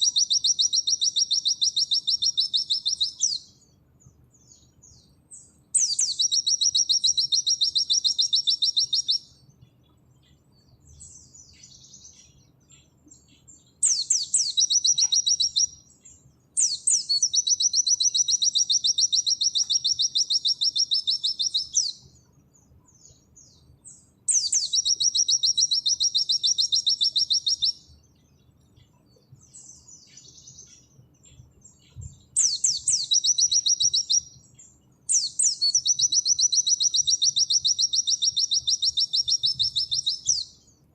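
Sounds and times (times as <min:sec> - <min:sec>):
bird singing rapid high notes: 0:00.0 - 0:03.6, 0:04.5 - 0:09.4, 0:10.9 - 0:22.3, 0:23.0 - 0:27.9, 0:29.5 - 0:40.7
soft bird twittering: 0:00.0 - 0:40.8.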